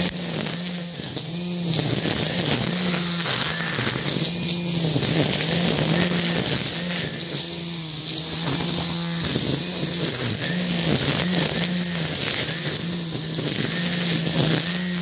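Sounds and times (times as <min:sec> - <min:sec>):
string trimmer motor whine: 0:00.0 - 0:15.0
trimmer line hissing: 0:00.0 - 0:15.0.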